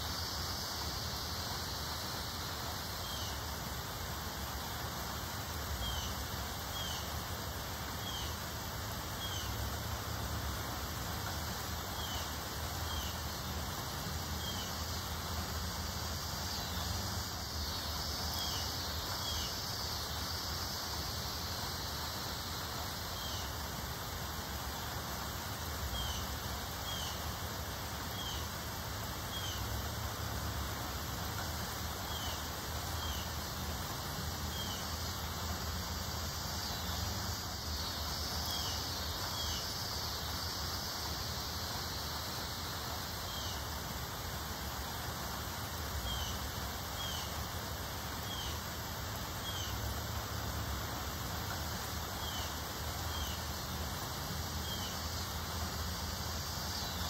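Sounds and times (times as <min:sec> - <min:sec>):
outdoor air hiss and rumble: 0:00.0 - 0:57.0.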